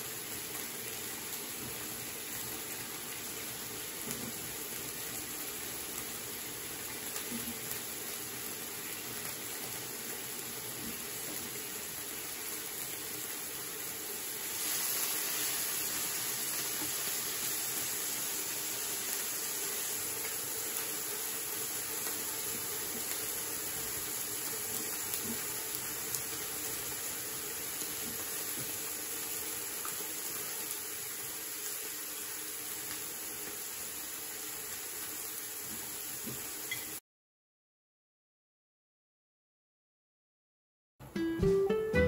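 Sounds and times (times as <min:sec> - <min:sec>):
food sizzling on a grill: 0:00.0 - 0:37.0.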